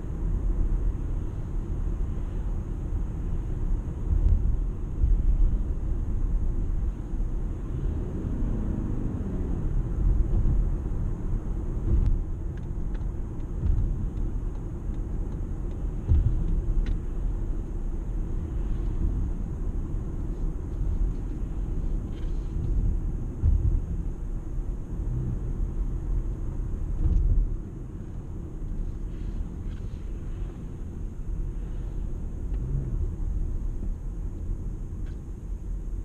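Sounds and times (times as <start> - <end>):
car road and tyre rumble: 0.0 - 36.0.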